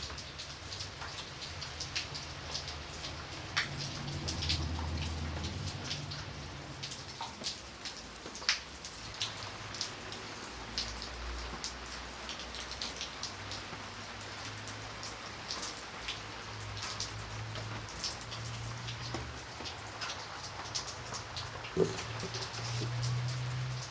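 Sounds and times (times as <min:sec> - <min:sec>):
rain pattering: 0:00.0 - 0:23.9
raindrops ticking on a surface: 0:00.0 - 0:23.9.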